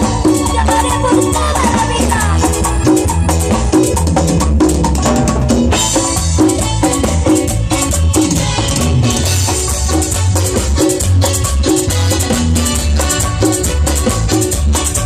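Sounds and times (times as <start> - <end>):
latin dance band playing: 0.0 - 15.0.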